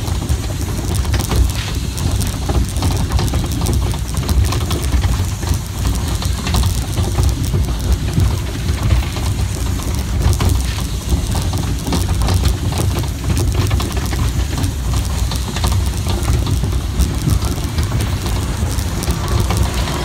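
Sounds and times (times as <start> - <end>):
low rumble: 0.0 - 20.0
roller coaster rattling on track: 0.0 - 20.0.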